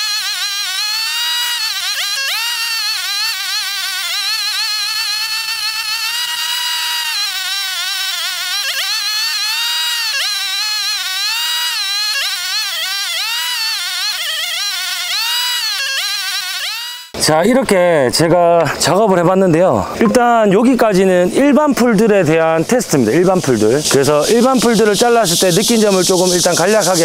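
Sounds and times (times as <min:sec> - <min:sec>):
brush cutter engine running: 0:00.0 - 0:17.2, 0:22.5 - 0:27.0.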